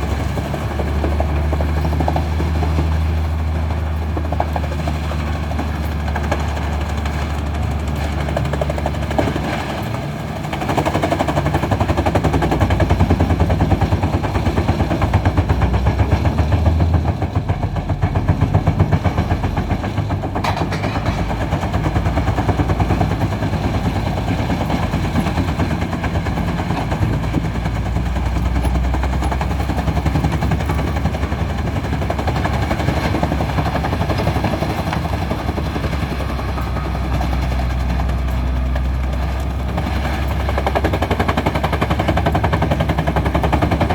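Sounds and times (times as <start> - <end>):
heavy engine drone: 0.0 - 43.9
wood chipper cracking logs: 0.0 - 43.9.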